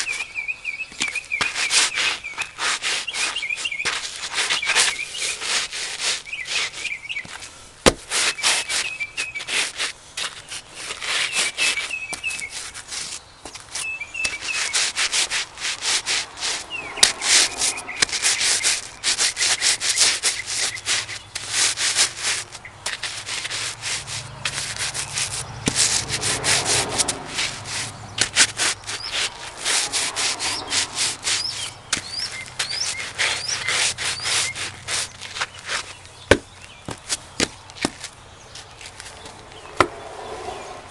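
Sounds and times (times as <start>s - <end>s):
crackers crunching under boots: 0.0s - 40.0s.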